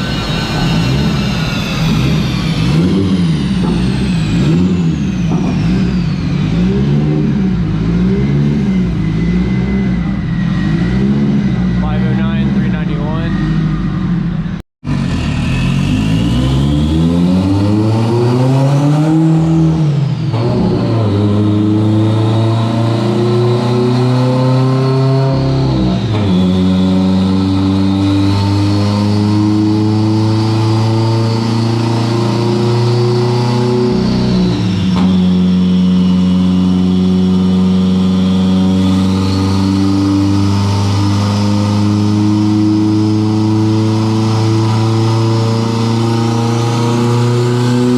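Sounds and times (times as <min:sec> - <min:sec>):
car engine revving under load: 0:00.0 - 0:47.9.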